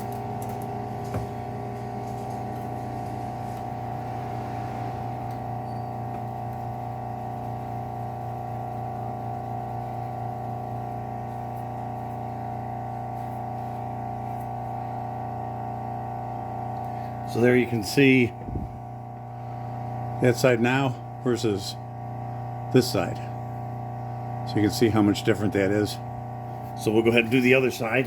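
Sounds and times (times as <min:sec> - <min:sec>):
bench grinder humming: 0:00.0 - 0:28.0.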